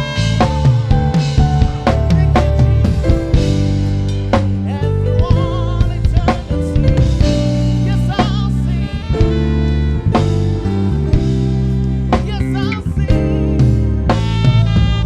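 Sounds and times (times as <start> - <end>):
drum kit strikes: 0.0 - 15.0
sustained chords: 0.0 - 15.0.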